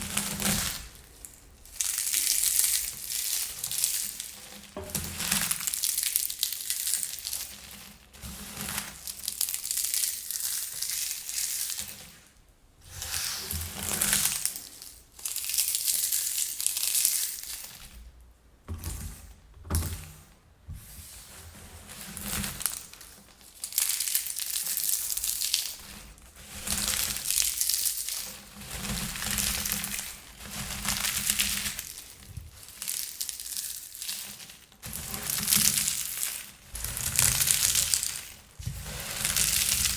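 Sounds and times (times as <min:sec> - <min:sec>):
popcorn crushed in the hand: 0:00.0 - 0:07.8, 0:08.9 - 0:12.0, 0:13.2 - 0:17.9, 0:22.4 - 0:26.0, 0:26.6 - 0:39.9.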